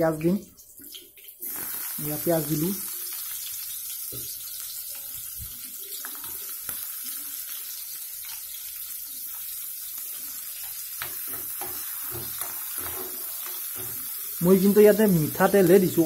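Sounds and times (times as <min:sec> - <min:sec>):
onions sizzling in hot oil: 0:00.6 - 0:16.0.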